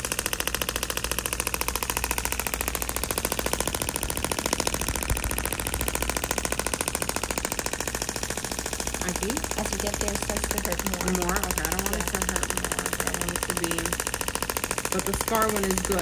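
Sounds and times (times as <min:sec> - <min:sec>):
rapid sharp clicks: 0:00.0 - 0:16.0.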